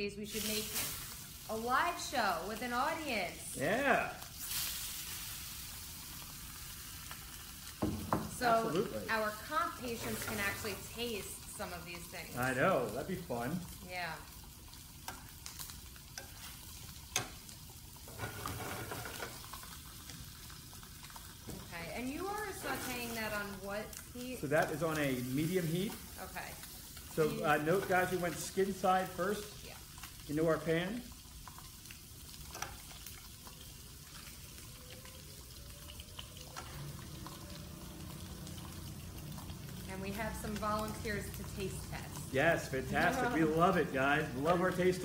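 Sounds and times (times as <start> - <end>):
fish sizzling in oil: 0.0 - 45.0.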